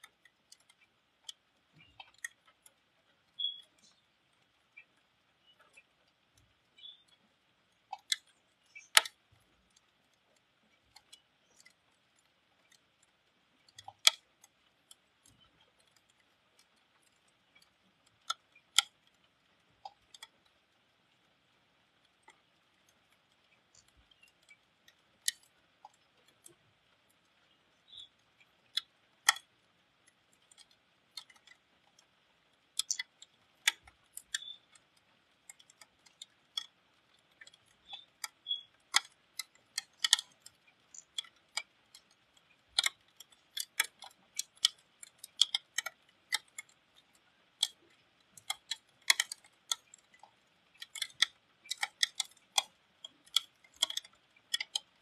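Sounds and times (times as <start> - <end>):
faint steady hiss: 0.0 - 55.0
raindrops ticking on hard surface: 0.0 - 55.0.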